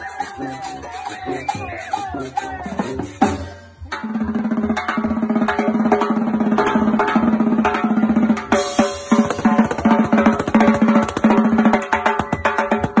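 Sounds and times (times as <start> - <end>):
hand-played congas: 0.0 - 13.0
snare drums: 0.0 - 13.0.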